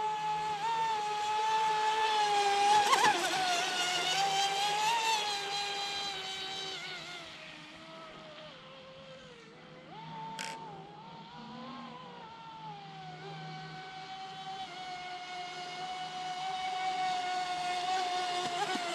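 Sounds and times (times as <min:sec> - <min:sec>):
rc boat motor whine: 0:00.0 - 0:18.9.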